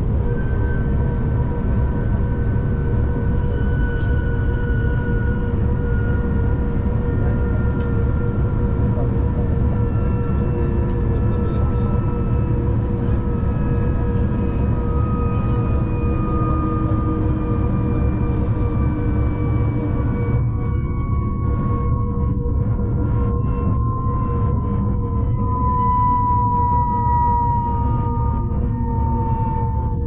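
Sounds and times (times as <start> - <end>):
humming tones drifting in pitch: 0.0 - 30.0
train rumble inside carriage: 0.0 - 30.0.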